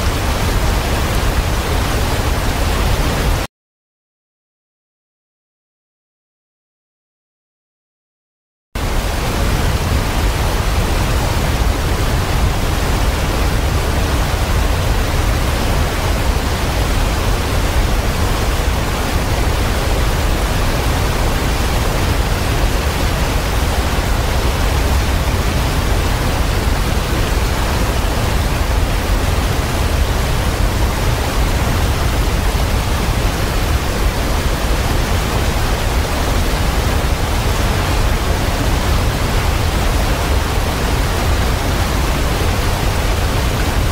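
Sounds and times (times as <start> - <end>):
waterfall rushing: 0.0 - 3.5, 8.8 - 43.9.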